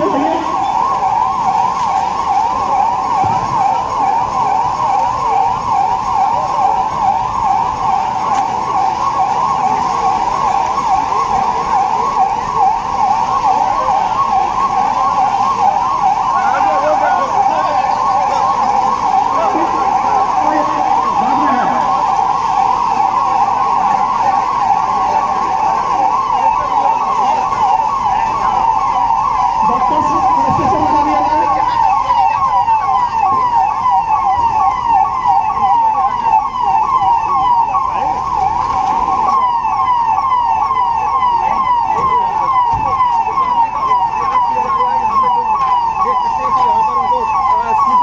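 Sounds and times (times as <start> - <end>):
warbling warning siren: 0.0 - 48.0.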